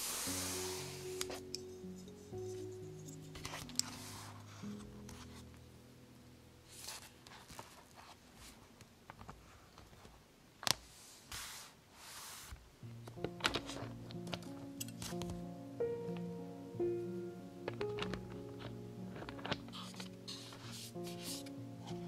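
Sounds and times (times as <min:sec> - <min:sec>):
paper rustling: 0:00.0 - 0:01.5, 0:02.1 - 0:05.6, 0:06.7 - 0:15.4, 0:17.6 - 0:22.0
soft background music: 0:00.0 - 0:08.6, 0:12.8 - 0:22.0.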